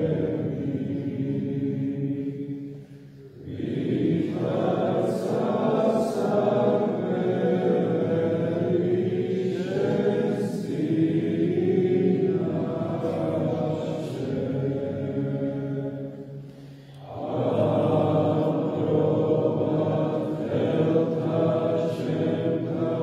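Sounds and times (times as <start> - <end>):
choir chanting: 0.0 - 23.0.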